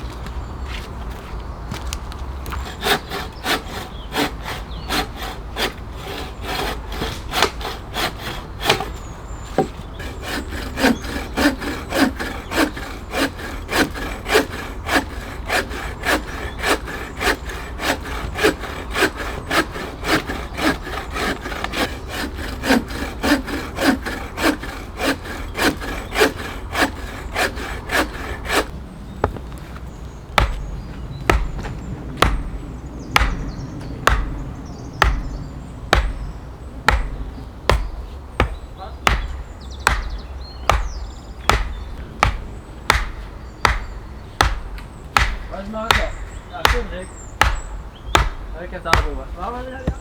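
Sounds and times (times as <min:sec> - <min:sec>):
hand saw cutting log: 0:02.4 - 0:28.7, 0:33.2 - 0:34.4, 0:35.0 - 0:36.3, 0:36.9 - 0:50.0.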